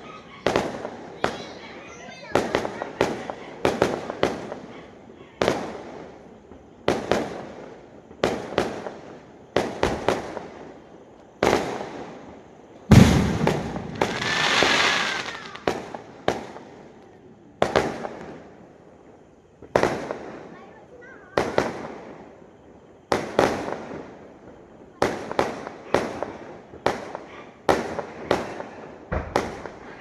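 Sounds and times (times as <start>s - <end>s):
fireworks bangs echoing: 0.0s - 10.8s, 11.4s - 16.9s, 17.6s - 18.6s, 19.6s - 22.3s, 25.0s - 30.0s
fireworks crackling: 0.0s - 30.0s.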